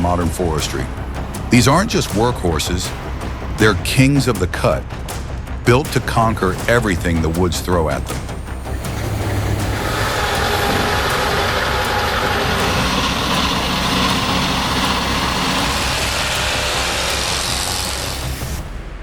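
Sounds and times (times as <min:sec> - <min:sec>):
truck engine running: 0:00.0 - 0:18.8.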